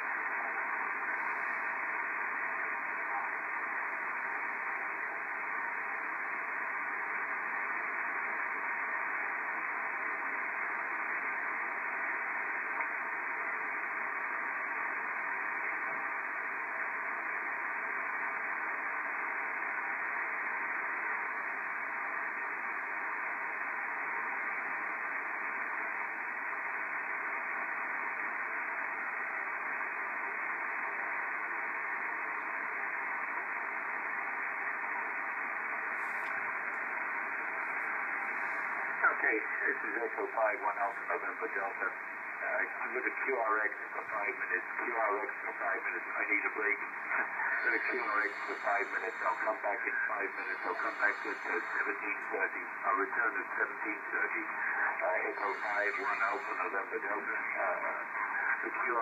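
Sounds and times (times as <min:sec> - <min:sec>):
radio static hiss: 0:00.0 - 0:59.0.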